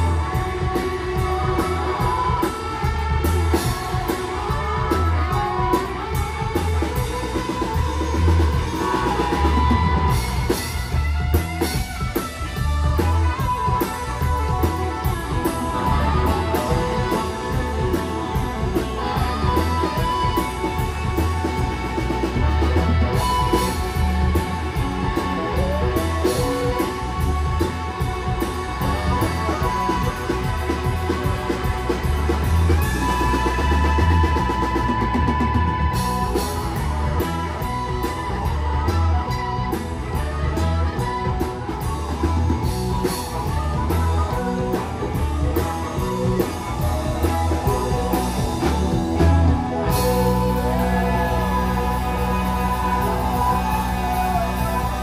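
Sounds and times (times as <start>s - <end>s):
drum kit beat: 0.0s - 55.0s
electric guitar lead line: 0.0s - 55.0s.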